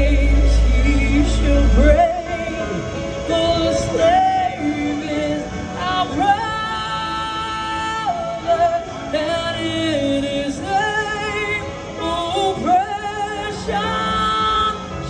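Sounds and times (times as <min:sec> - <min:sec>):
amplified person singing: 0:00.0 - 0:15.0
musical accompaniment: 0:00.0 - 0:15.0.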